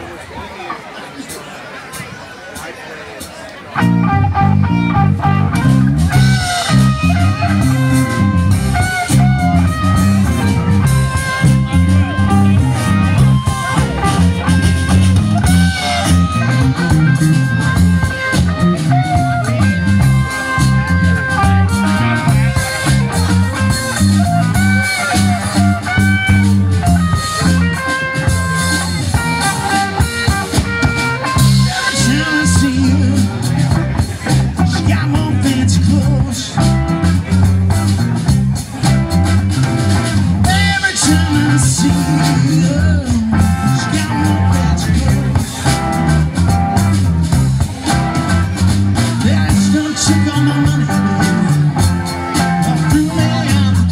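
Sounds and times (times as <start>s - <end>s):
crowd chatter: 0.0s - 53.9s
blues-rock band playing: 1.8s - 53.9s.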